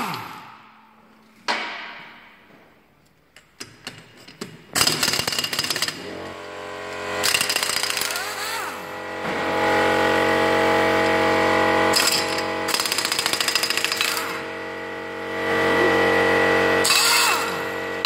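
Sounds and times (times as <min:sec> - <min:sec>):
impact wrench whirring and hammering: 0:00.0 - 0:00.6, 0:03.6 - 0:18.0.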